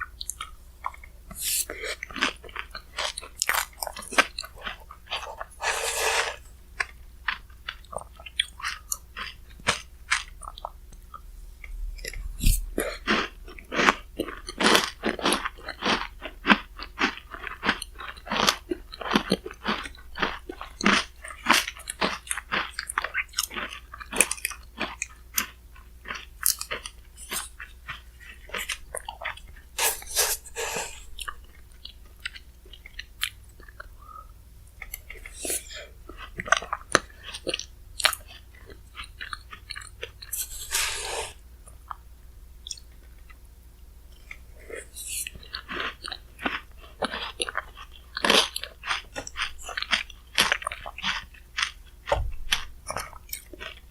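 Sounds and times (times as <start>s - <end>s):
chewing and crunching ice: 0.0s - 29.8s, 30.9s - 40.7s, 44.1s - 53.9s.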